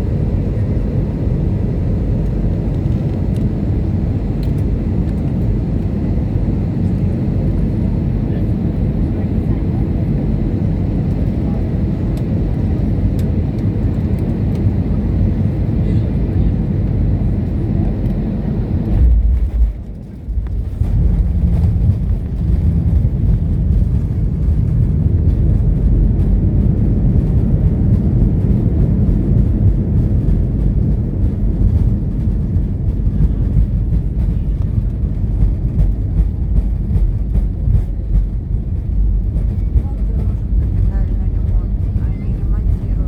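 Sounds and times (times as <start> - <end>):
airplane landing rumble: 0.0 - 43.0.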